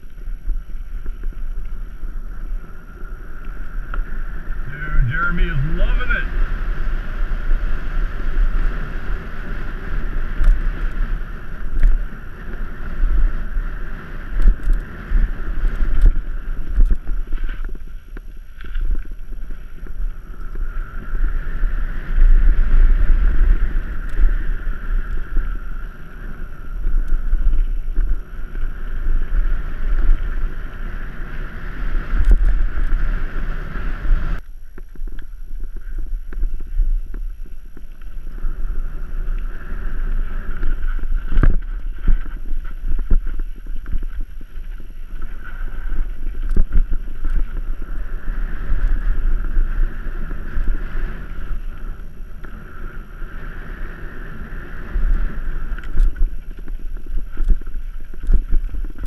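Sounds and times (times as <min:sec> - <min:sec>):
bike rattling over bumps: 0:00.0 - 0:59.0
wind buffeting microphone: 0:00.0 - 0:59.0.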